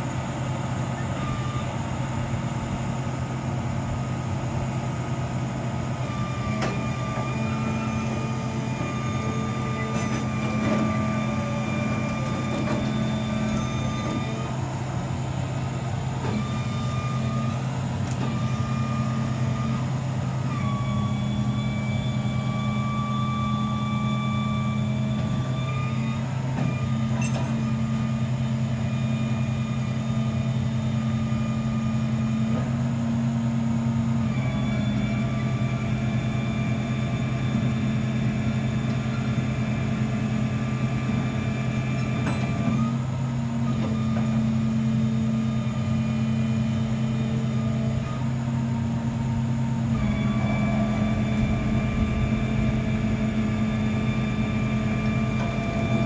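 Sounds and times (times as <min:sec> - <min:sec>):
machine humming and whining: 0:00.0 - 0:56.0.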